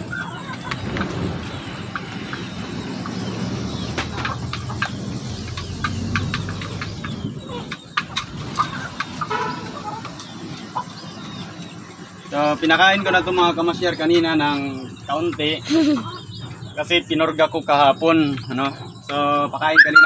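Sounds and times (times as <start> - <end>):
low rumbling noise: 0.0 - 19.1
chickens clucking: 0.0 - 20.0.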